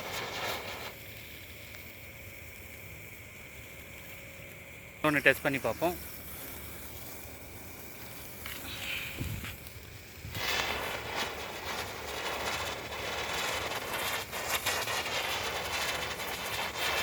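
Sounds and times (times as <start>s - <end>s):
firework crackles: 0.0s - 17.0s
firework fizzing hiss: 0.0s - 17.0s.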